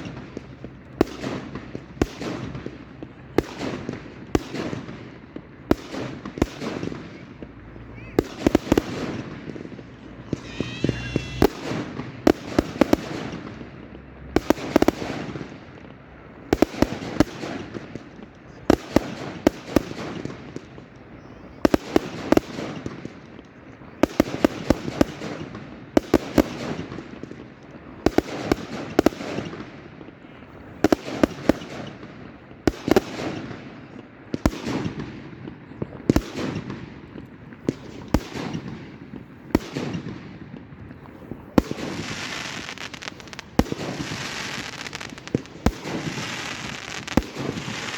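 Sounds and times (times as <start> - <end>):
fireworks bangs: 0.0 - 23.1, 24.0 - 47.9
fireworks crackling: 0.0 - 47.9.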